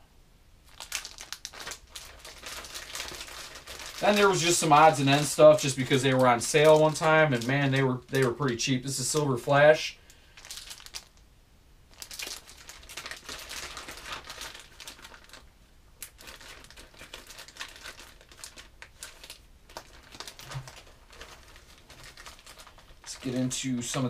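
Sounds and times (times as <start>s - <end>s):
plastic packs crinkling: 0.6s - 11.2s, 11.9s - 24.0s.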